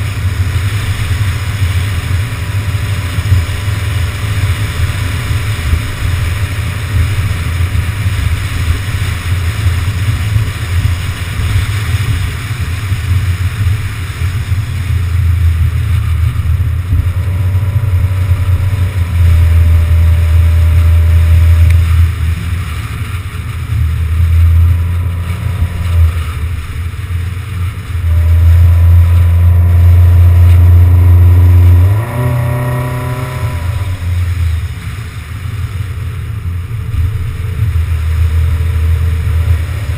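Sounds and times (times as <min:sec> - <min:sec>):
car engine: 0:00.0 - 0:39.9
road noise: 0:00.0 - 0:39.9
wind buffeting microphone: 0:00.0 - 0:39.9.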